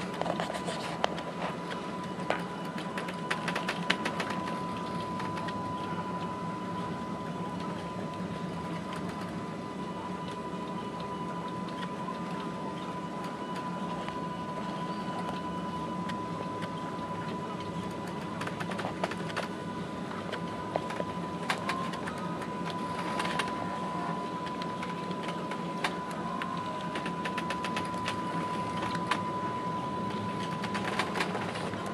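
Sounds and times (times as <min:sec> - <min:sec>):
high-pitched equipment whine: 0:00.0 - 0:31.9
ship machinery hum: 0:00.0 - 0:31.9.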